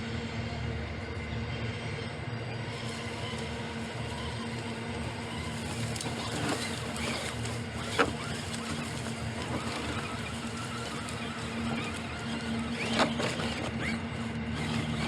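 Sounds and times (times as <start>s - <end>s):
train engine hum: 0.0s - 15.0s.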